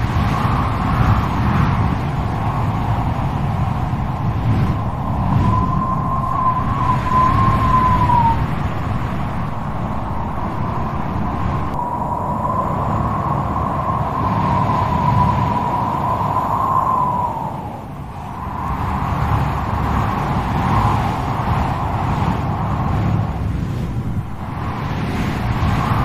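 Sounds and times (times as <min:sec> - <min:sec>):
whistling wind howl: 0:00.0 - 0:26.0
wind blowing hard: 0:00.0 - 0:26.0.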